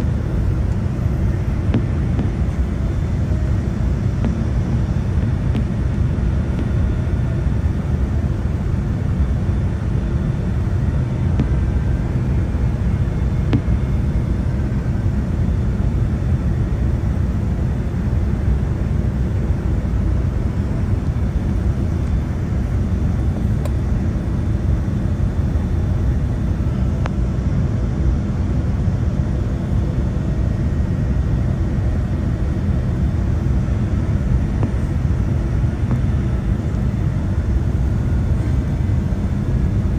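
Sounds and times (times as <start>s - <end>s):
airplane cabin airflow and engine: 0.0s - 39.9s.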